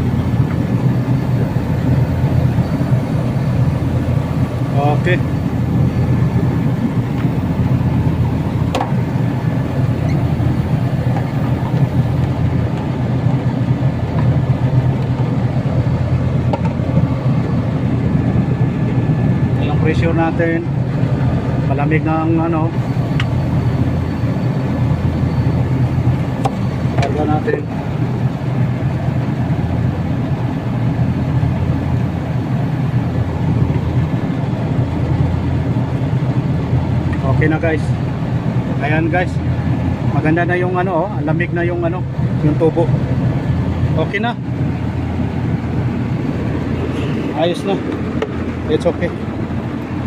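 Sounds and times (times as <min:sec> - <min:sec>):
air conditioner humming: 0:00.0 - 0:50.0.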